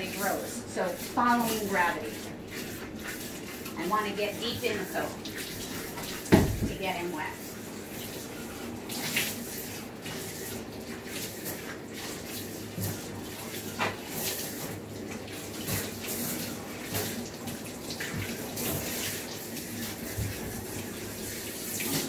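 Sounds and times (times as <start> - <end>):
water splashing into tub: 0.0 - 22.0
water spraying from hose: 0.0 - 22.0.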